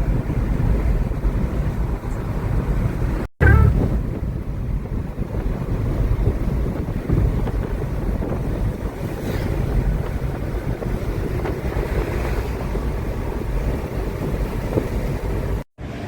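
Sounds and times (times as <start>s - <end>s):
wind buffeting microphone: 0.0s - 15.6s
moving car rumble: 0.0s - 16.0s.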